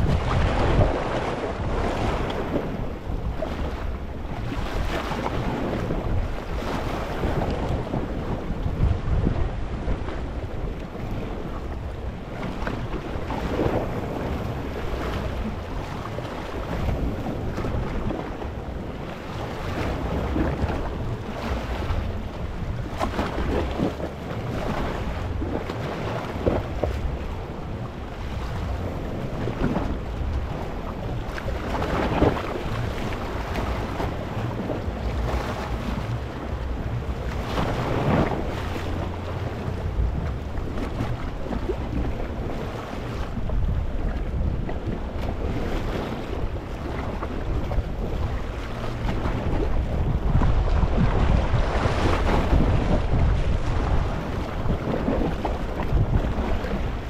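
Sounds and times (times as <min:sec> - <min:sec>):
waves washing over rocky shore: 0:00.0 - 0:57.0
wind buffeting microphone: 0:00.0 - 0:57.0.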